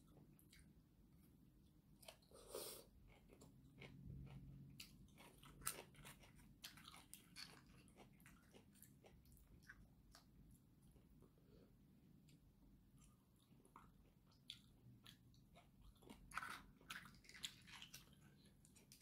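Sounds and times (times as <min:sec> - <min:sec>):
chewing with wet clicks: 0:00.0 - 0:00.8, 0:03.0 - 0:11.0, 0:12.2 - 0:19.0.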